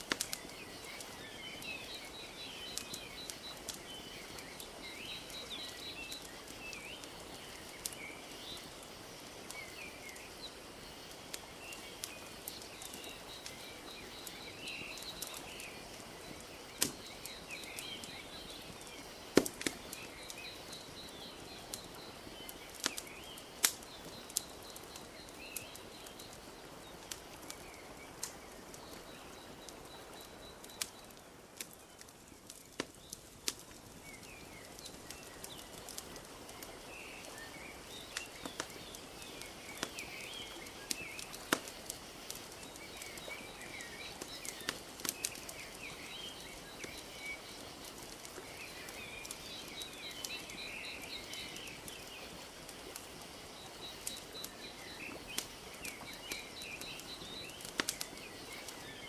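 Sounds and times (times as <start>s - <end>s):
small birds chirping: 0.0s - 59.0s
wood fire crackling: 0.0s - 59.0s.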